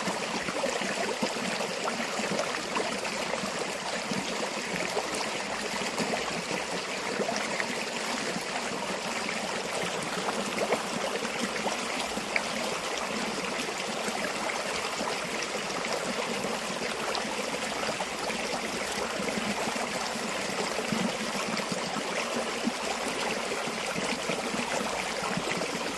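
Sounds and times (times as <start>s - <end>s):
river water babbling over stones: 0.0s - 25.9s.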